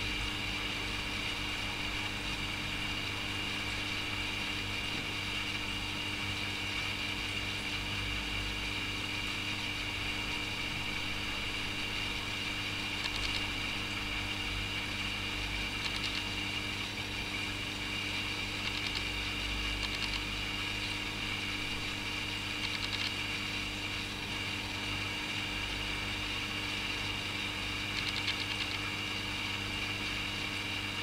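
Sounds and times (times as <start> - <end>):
aquarium equipment motor hum: 0.0 - 31.0.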